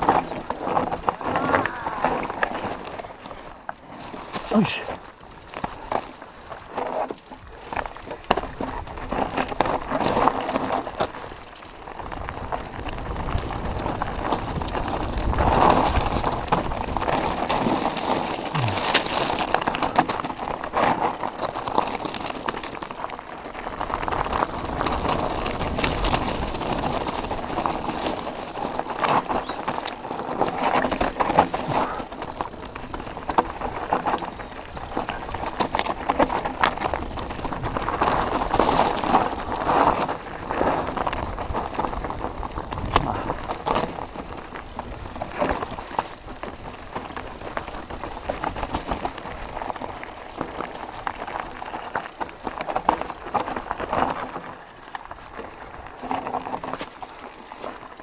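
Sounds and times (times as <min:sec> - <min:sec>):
bike rattling and clattering: 0:00.0 - 0:58.0
tyres crunching over stones: 0:00.0 - 0:58.0.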